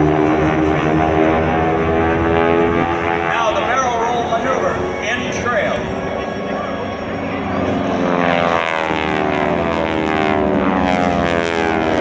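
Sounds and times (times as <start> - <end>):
propeller planes droning past: 0.0 - 12.0.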